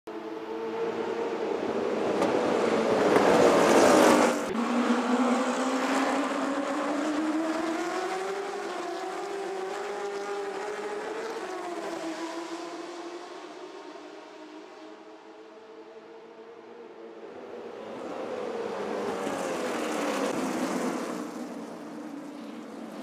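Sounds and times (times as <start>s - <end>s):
race car engines droning: 0.1s - 23.0s.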